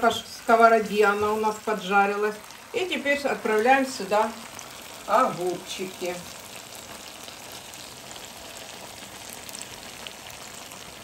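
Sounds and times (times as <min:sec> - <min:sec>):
frying pan sizzling: 0:00.0 - 0:11.0.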